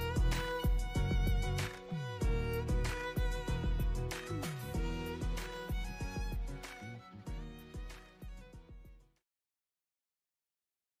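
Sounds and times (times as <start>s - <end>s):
melodic music over steady beat: 0.0s - 9.1s.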